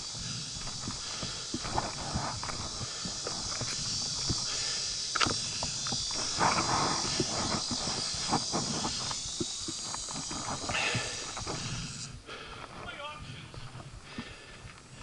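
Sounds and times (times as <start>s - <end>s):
footsteps crunching on a trail: 0.0s - 15.0s
high insect drone: 0.0s - 15.0s.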